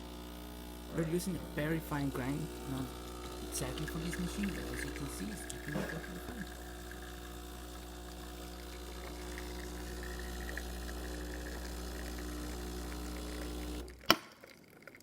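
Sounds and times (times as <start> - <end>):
espresso machine pump humming: 0.0 - 14.1.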